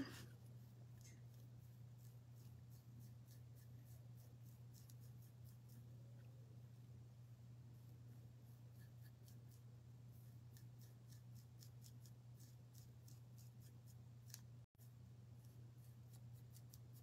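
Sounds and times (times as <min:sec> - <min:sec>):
paintbrush strokes on wood: 0:00.0 - 0:06.0, 0:07.6 - 0:17.0.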